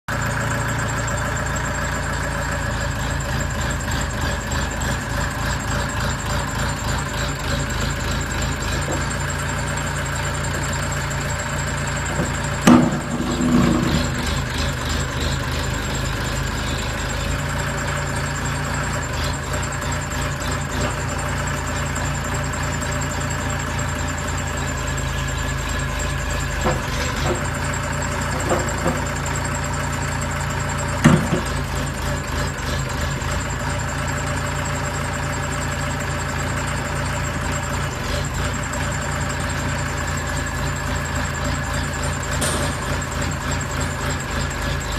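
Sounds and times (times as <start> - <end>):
backhoe engine running: 0.1 - 44.9.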